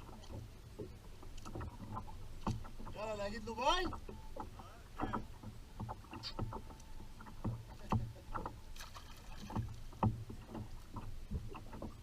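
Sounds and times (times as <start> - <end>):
water slapping against kayak hull: 0.0 - 12.0.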